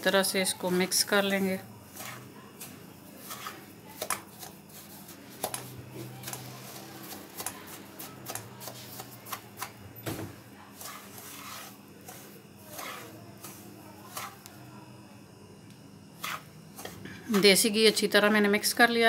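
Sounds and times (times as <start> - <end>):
wooden spoon scraping a pan: 0.0 - 9.8, 10.6 - 14.5, 16.2 - 18.1.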